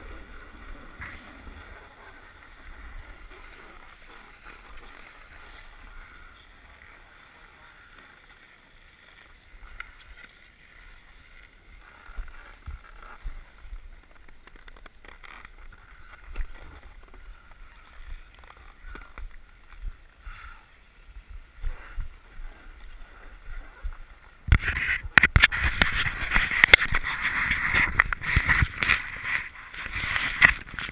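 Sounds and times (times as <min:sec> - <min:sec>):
loud rush of scraping and crackling: 0:00.0 - 0:30.9
snowboard scraping packed snow: 0:00.0 - 0:30.9.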